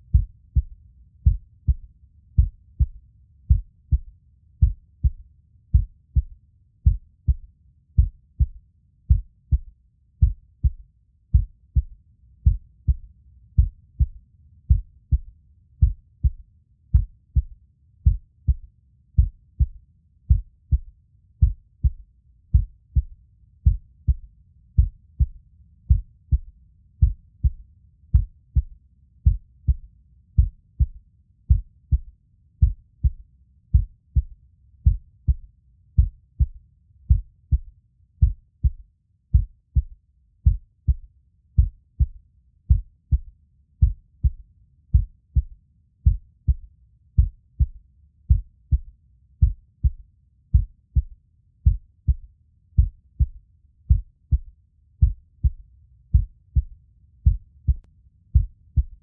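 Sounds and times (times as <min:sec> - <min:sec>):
heartbeat thumps: 0:00.1 - 0:35.4, 0:36.0 - 0:46.6, 0:47.2 - 0:59.0.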